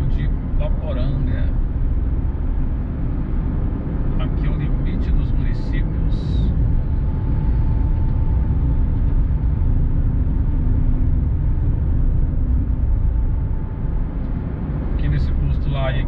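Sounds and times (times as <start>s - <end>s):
car engine and tyre rumble: 0.0s - 16.0s
faint steady whine: 0.0s - 16.0s.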